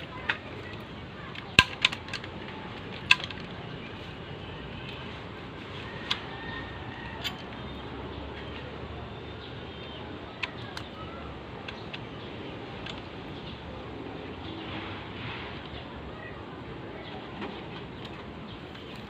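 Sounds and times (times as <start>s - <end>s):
background noise: 0.0s - 19.0s.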